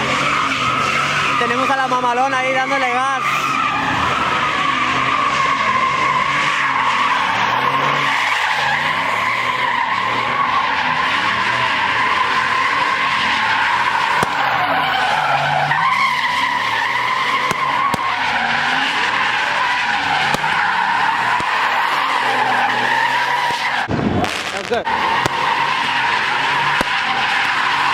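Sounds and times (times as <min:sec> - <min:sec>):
engine revving: 0:00.0 - 0:27.9
tyres screeching: 0:03.2 - 0:23.9, 0:24.7 - 0:27.9.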